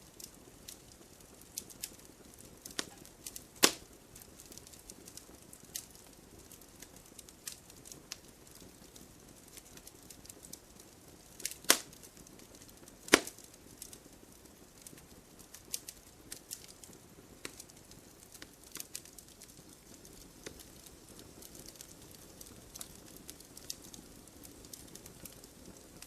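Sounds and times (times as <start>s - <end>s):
firewood crackling in fireplace: 0.0s - 26.0s.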